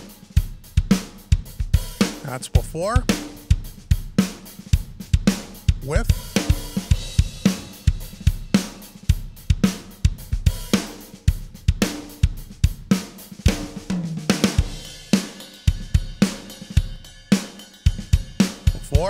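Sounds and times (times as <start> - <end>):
drum kit groove: 0.0 - 19.0.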